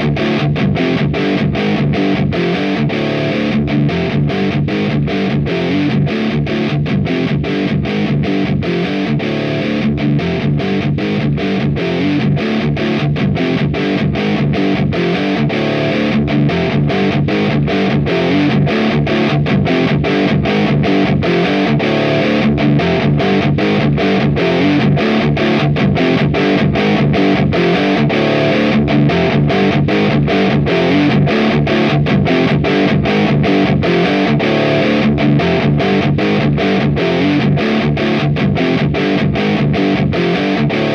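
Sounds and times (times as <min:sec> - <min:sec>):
distorted electric guitar metal riff: 0:00.0 - 0:40.9.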